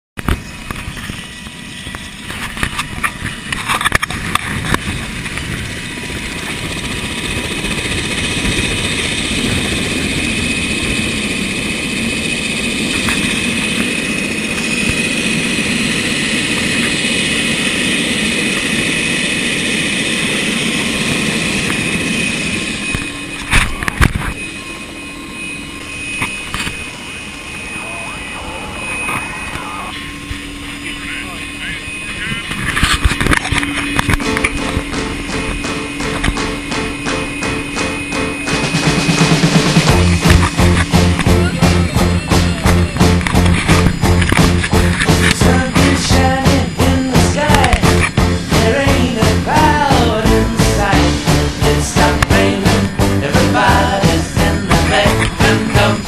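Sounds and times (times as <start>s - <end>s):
helicopter rotor noise: 0.2s - 56.0s
helicopter turbine whine: 0.2s - 56.0s.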